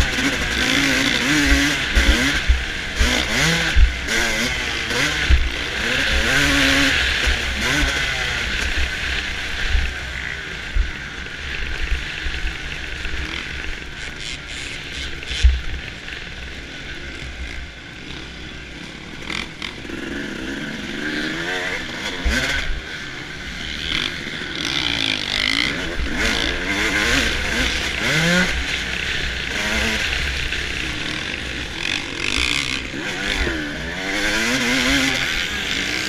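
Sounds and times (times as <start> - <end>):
motocross engine running hard: 0.0 - 36.0.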